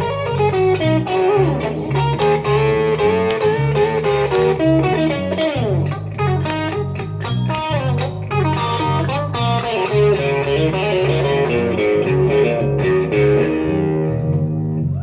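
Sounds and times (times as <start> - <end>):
electric guitar line: 0.0 - 15.0
pulsing bass line: 0.0 - 15.0.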